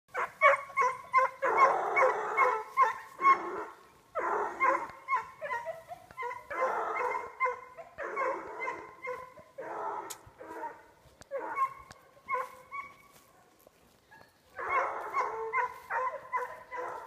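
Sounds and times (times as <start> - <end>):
young dogs barking and yelping: 0.1 - 17.0.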